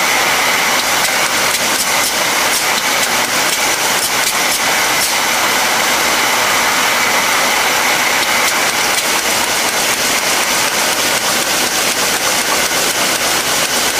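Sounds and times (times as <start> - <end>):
labelling machine whir and hiss: 0.0 - 13.9.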